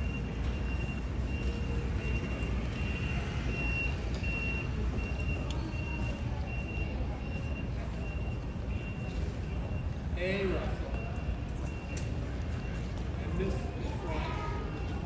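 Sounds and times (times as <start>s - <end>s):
high warning beeps: 0.0s - 13.6s
low rumble of hall: 0.0s - 15.0s.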